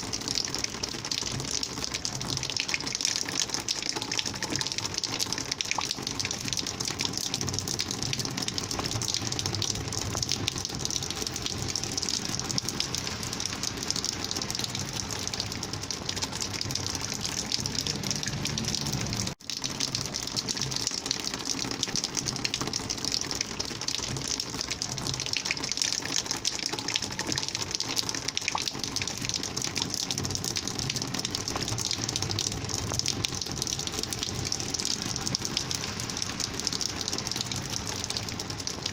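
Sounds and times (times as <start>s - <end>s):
rainwater gushing: 0.0s - 38.9s.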